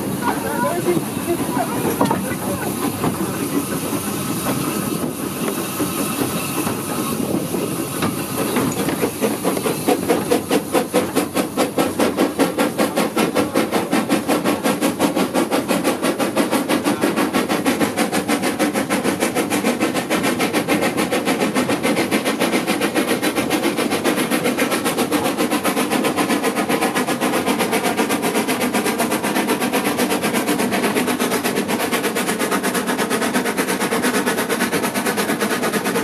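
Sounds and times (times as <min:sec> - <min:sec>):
steam hissing: 0:00.0 - 0:36.0
steam locomotive exhaust chuffs: 0:00.0 - 0:36.0.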